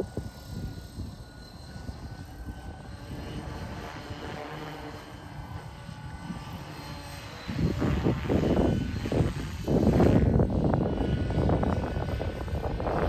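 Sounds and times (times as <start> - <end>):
radio-controlled helicopter whine: 0.0 - 13.0.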